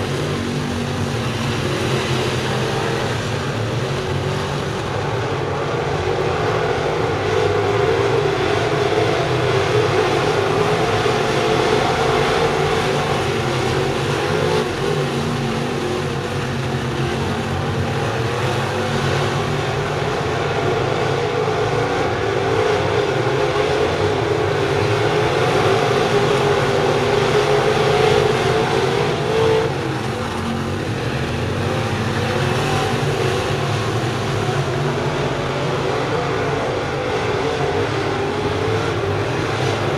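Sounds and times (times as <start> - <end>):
racing car engines droning: 0.0 - 39.9.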